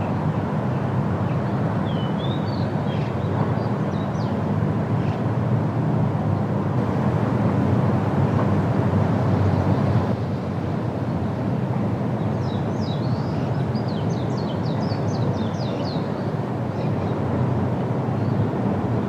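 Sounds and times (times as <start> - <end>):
wind through trees: 0.0 - 19.0.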